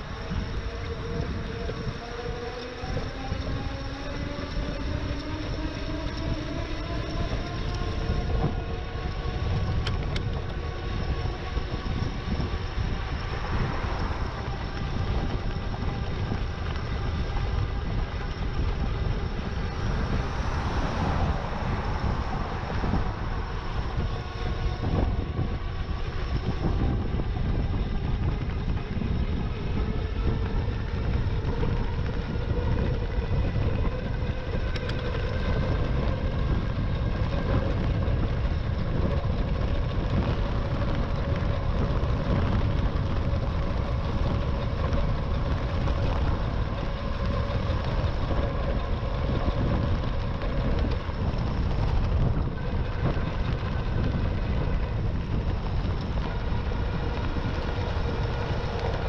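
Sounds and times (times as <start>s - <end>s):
motor whine: 0.0s - 59.0s
wind rushing over microphone: 0.0s - 59.0s.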